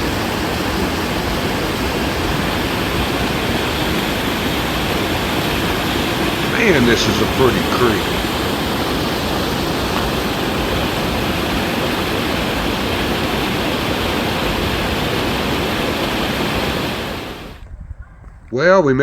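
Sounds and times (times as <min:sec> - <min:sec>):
water rushing over rocks: 0:00.0 - 0:17.6.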